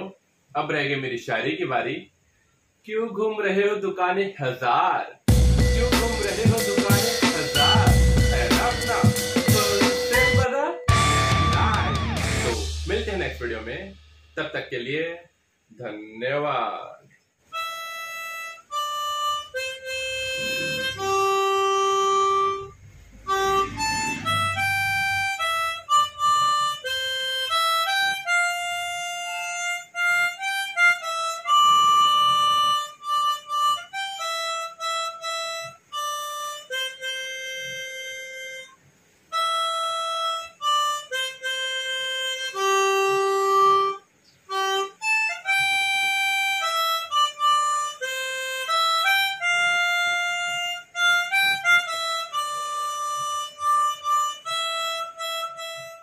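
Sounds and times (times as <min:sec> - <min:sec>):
harmonica melody: 0:05.3 - 0:14.4, 0:17.5 - 0:56.0.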